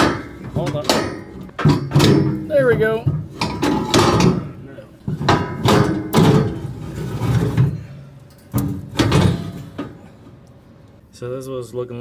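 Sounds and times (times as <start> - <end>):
heavy metal clanks and scrapes: 0.0 - 10.4.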